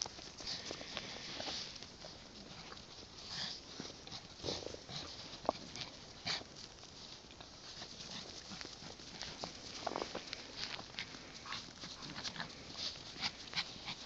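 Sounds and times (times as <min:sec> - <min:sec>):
paws crunching in snow: 0:00.0 - 0:14.0.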